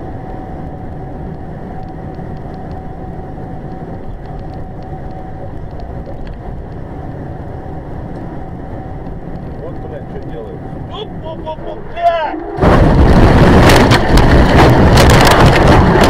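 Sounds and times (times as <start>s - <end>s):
road and engine noise: 0.0s - 16.0s
thin steady whine: 0.0s - 16.0s.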